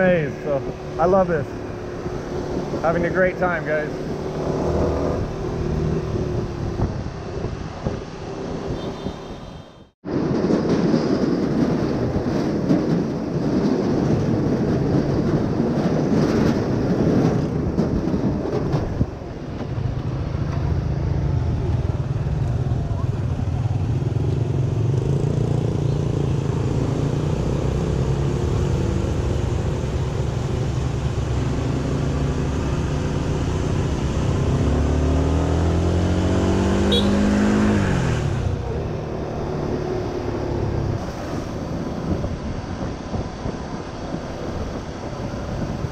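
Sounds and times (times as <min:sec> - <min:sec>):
wind rushing over microphone: 0:00.0 - 0:09.2, 0:10.0 - 0:45.9.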